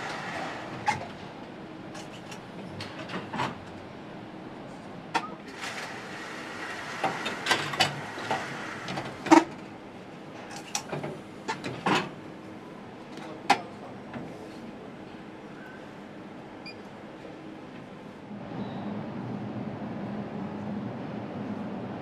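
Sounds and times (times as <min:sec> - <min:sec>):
factory hum: 0:00.0 - 0:22.0.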